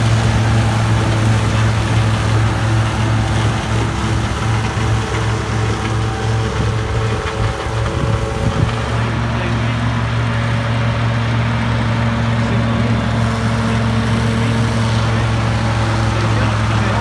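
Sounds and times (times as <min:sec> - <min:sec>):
forage harvester chopping grass: 0:00.0 - 0:17.0
tractor diesel engine under load: 0:00.0 - 0:17.0.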